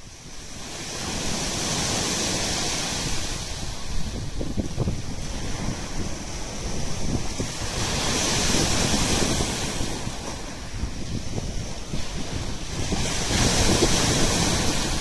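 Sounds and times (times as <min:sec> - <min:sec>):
wind buffeting microphone: 0:00.0 - 0:15.0
surf breaking on shore: 0:00.2 - 0:15.0.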